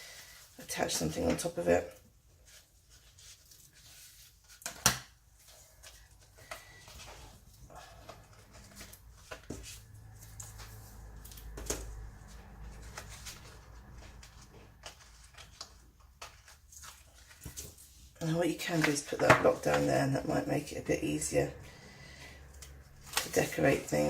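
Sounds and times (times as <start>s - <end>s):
paper rustling: 2.4s - 20.4s, 22.1s - 24.0s.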